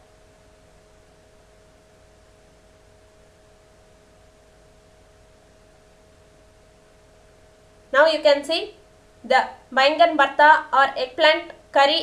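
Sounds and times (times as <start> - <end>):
two-tone electrical hum: 0.0 - 12.0.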